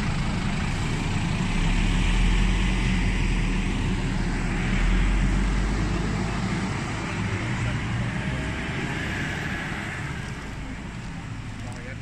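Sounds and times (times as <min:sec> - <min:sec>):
bus diesel engine rumbling: 0:00.0 - 0:12.0
street hum: 0:00.0 - 0:12.0.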